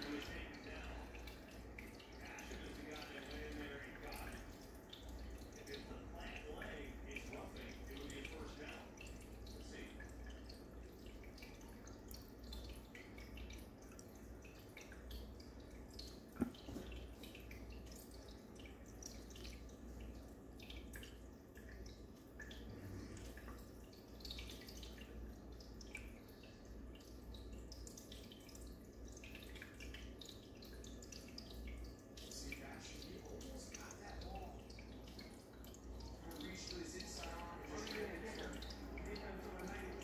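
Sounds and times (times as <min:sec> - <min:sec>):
low steady hum: 0:00.0 - 0:40.0
water trickling and dripping: 0:00.0 - 0:40.0.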